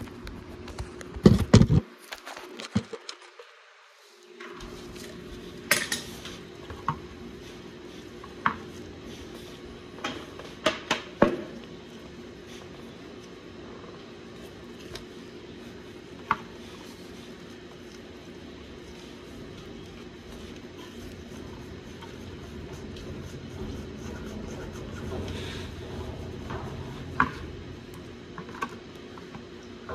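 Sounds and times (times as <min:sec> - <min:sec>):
steady low hum: 0:04.1 - 0:29.9.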